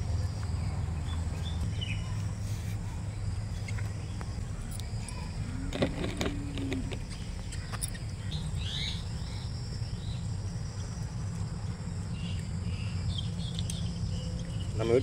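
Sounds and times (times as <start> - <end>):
birds chirping: 0.0 - 15.0
high insect drone: 0.0 - 15.0
low background rumble: 0.0 - 15.0.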